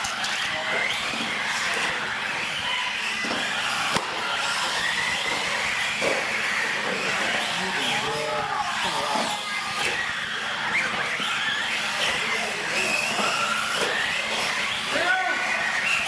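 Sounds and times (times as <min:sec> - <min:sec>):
toy truck motors whining: 0:00.0 - 0:16.0.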